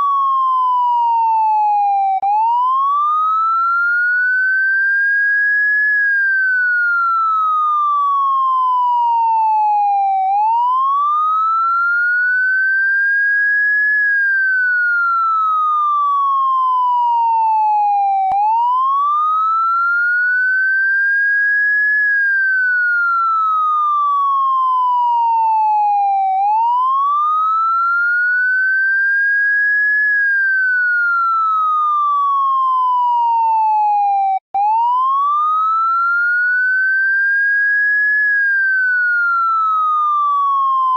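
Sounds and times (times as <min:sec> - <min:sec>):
police siren wailing: 0:00.0 - 0:40.9.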